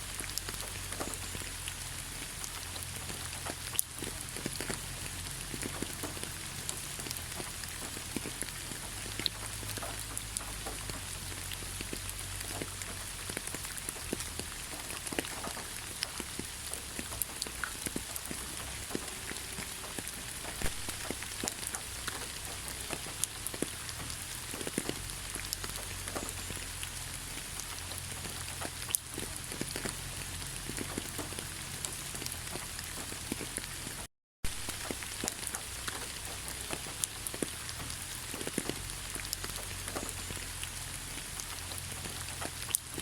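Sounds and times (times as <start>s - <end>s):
raindrops tapping close by: 0.0s - 43.0s
steady rain hiss: 0.0s - 43.0s.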